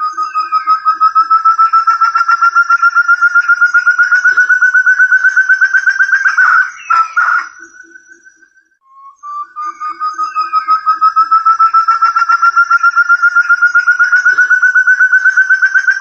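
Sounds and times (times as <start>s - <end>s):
whistled bird call: 0.0s - 16.0s.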